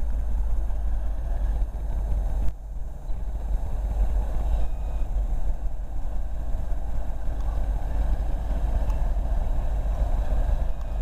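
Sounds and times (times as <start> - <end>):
distant locomotive noise: 0.0 - 11.0
wind buffeting microphone: 0.0 - 11.0.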